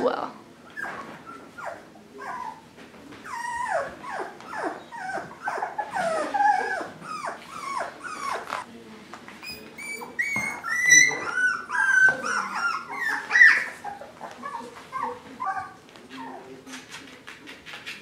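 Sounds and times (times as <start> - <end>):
puppies whining: 0.6 - 8.7, 9.4 - 16.6.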